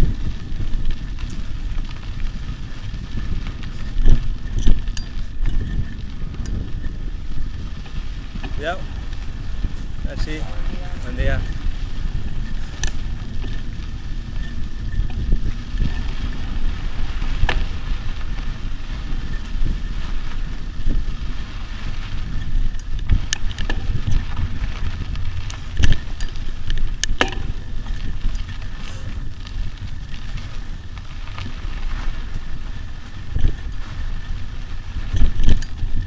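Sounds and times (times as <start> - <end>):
bike rattling over bumps: 0.0 - 36.0
tyres crunching on gravel: 0.0 - 36.0
wind rumble on microphone: 0.0 - 36.0.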